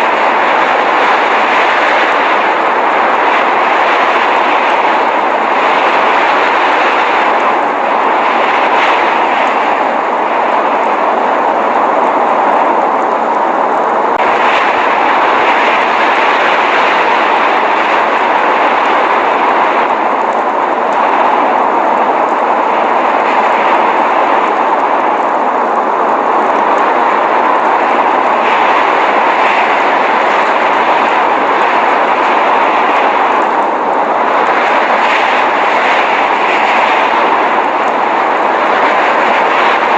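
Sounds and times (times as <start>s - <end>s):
blizzard wind driving snow: 0.0s - 39.9s.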